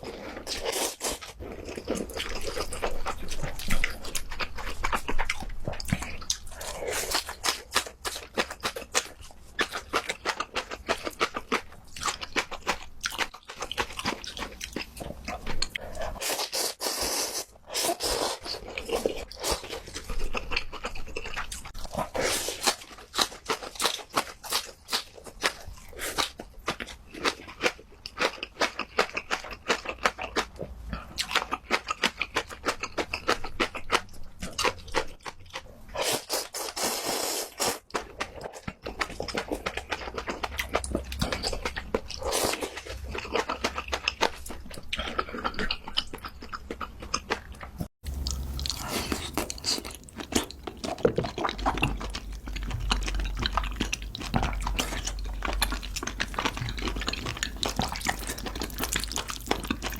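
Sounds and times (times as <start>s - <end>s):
wet chewing and crunching: 0.0s - 59.9s.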